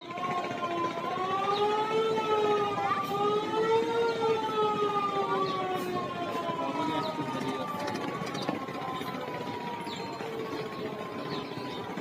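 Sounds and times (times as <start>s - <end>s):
siren-like horn blast: 0.0s - 12.0s
noisy background din: 0.3s - 12.0s.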